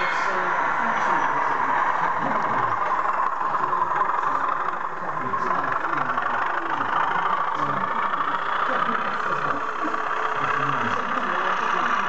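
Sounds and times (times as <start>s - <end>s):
model locomotive engine sound: 0.0s - 12.0s
onlookers chattering: 0.0s - 12.0s.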